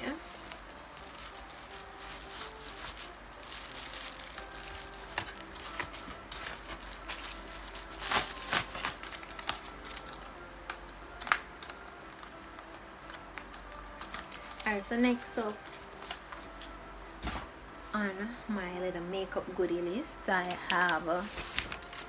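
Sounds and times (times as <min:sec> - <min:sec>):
plastic packaging crinkling: 0:00.0 - 0:16.6, 0:20.5 - 0:22.0.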